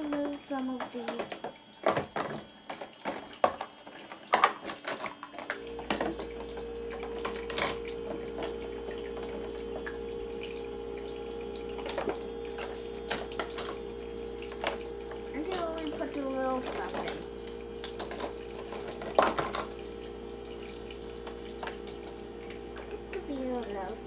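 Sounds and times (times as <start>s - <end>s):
small electric pump humming: 0.0s - 24.0s
water flowing from spout: 0.0s - 24.0s.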